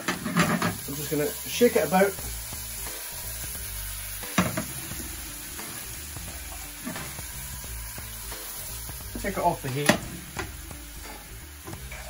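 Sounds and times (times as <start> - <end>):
scallops sizzling in a pan: 0.0 - 12.0.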